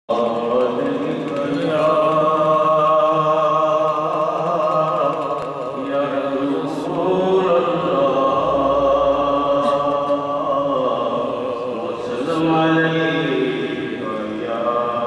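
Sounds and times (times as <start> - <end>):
man chanting into a microphone: 0.1 - 15.0.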